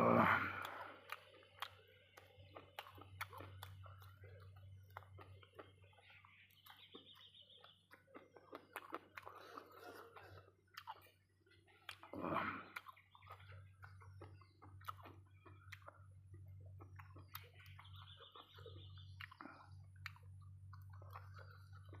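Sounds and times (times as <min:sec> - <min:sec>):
person chewing: 0:00.0 - 0:22.0
wet mouth clicks and smacks: 0:00.6 - 0:22.0.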